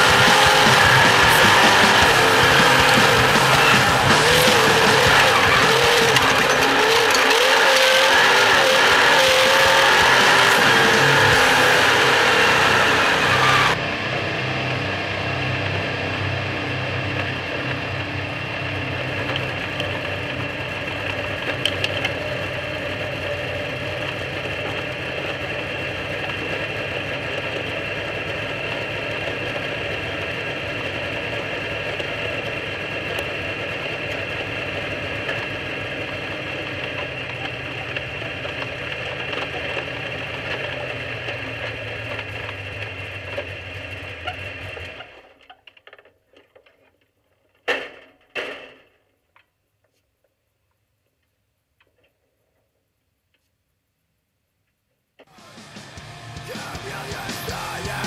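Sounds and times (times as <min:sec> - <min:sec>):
car engine running: 0:00.0 - 0:45.4, 0:55.3 - 0:58.0.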